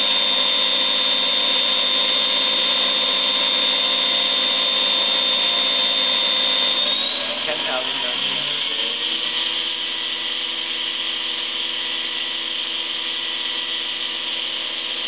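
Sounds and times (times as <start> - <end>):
machine high-pitched whine: 0.0 - 15.0.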